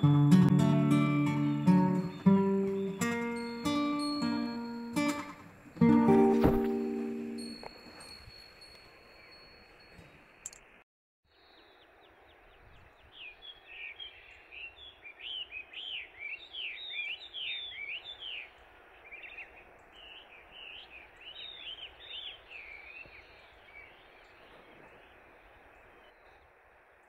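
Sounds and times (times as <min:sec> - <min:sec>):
songbird chirping: 0:00.0 - 0:10.7, 0:11.3 - 0:27.0
steady outdoor hiss: 0:00.0 - 0:27.0.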